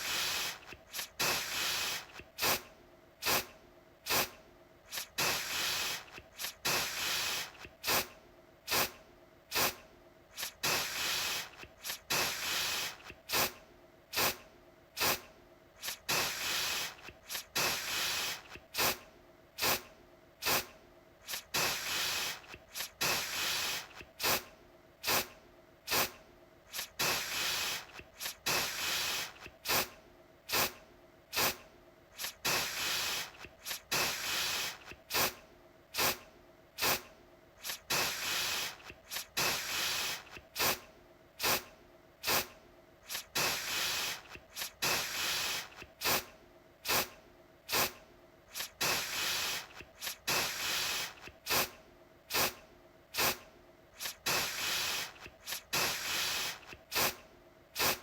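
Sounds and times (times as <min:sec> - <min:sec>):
aerosol can spraying bursts: 0:00.0 - 0:03.5, 0:04.1 - 0:08.1, 0:08.7 - 0:14.4, 0:15.0 - 0:19.0, 0:19.6 - 0:25.3, 0:25.9 - 0:31.6, 0:32.2 - 0:35.4, 0:36.0 - 0:36.2, 0:36.8 - 0:40.8, 0:41.4 - 0:52.6, 0:53.2 - 0:53.4, 0:54.0 - 0:57.2, 0:57.8 - 0:58.0.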